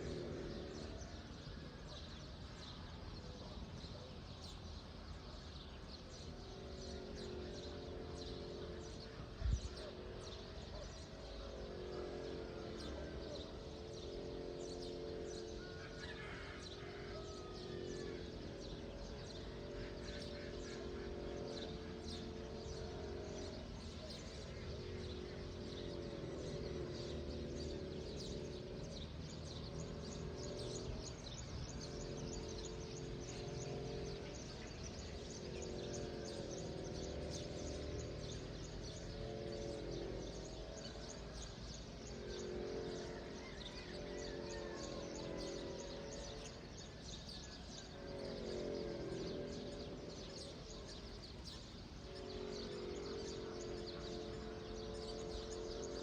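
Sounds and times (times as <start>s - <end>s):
birds chirping: 0.0s - 56.0s
steady low hum: 0.0s - 56.0s.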